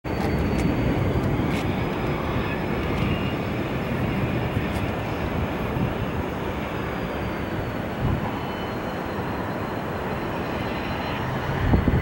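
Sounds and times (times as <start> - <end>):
distant jet engine rumble: 0.1 - 12.0.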